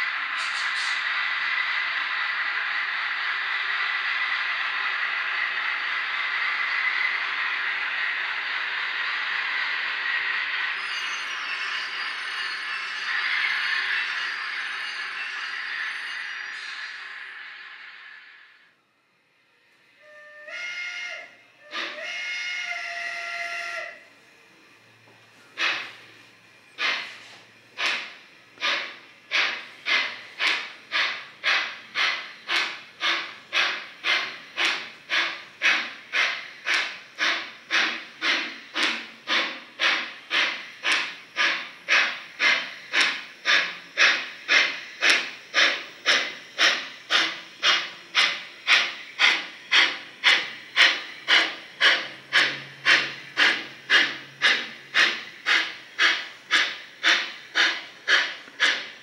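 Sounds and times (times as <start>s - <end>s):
model steam locomotive chuffing: 0.0s - 18.6s, 20.0s - 59.0s.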